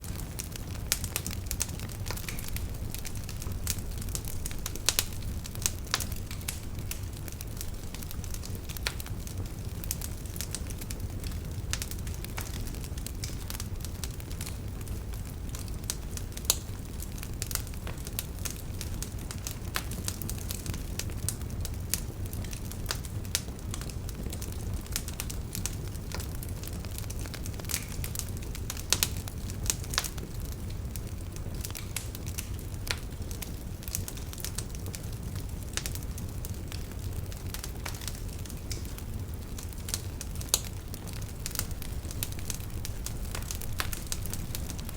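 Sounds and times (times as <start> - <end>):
loud fire pops: 0.0 - 44.9
wood fire crackling: 0.0 - 44.9.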